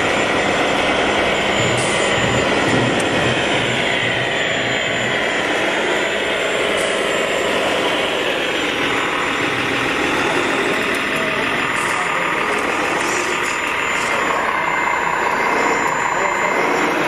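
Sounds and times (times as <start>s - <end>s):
electric motors whirring: 0.0s - 17.0s.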